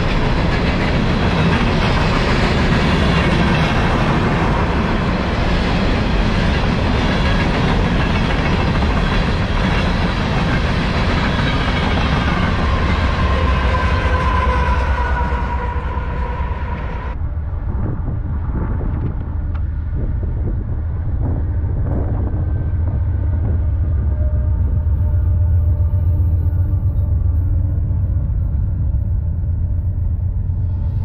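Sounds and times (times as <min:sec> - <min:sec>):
diesel locomotive engine drone: 0:00.0 - 0:31.0
freight cars wheel-on-rail noise: 0:00.0 - 0:31.0.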